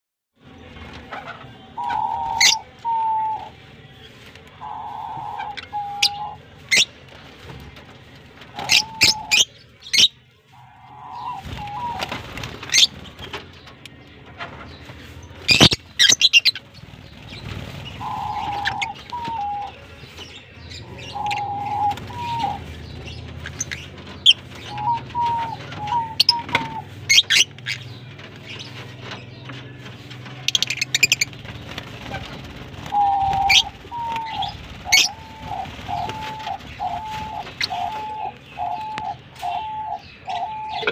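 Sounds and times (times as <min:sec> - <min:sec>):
lovebirds chirping and screeching: 0:00.6 - 0:40.9.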